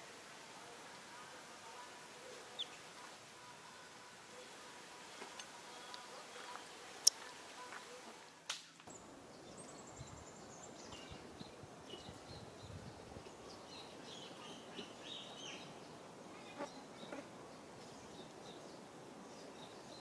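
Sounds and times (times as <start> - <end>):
low hiss: 0.0 - 20.0.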